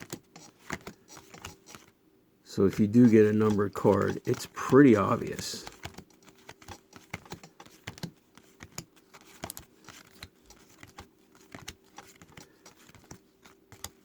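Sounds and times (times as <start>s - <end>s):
trading cards clicking and tapping: 0.0s - 1.9s, 2.6s - 14.0s
faint steady hum: 0.0s - 14.0s.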